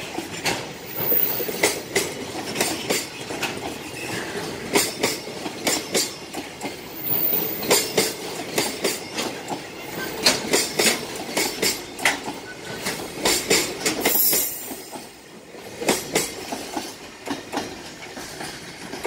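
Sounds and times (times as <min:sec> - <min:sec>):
train wheels clacking over rail joints: 0:00.0 - 0:19.0.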